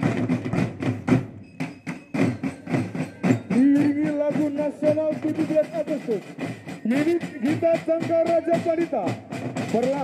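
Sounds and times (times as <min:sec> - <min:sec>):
marching drum band: 0:00.0 - 0:10.0.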